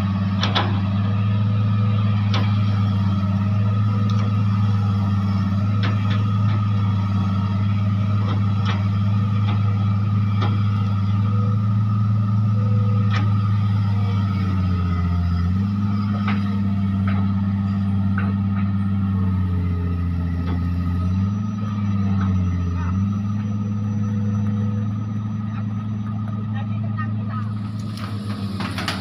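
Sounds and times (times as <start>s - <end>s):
excavator diesel engine straining: 0.0s - 29.0s.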